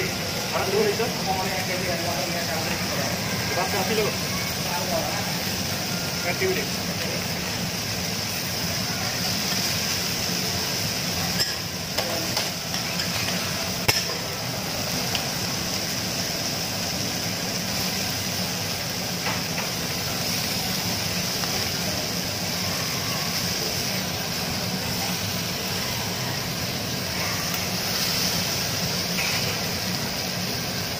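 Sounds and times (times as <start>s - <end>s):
food sizzling on griddle: 0.0s - 30.9s.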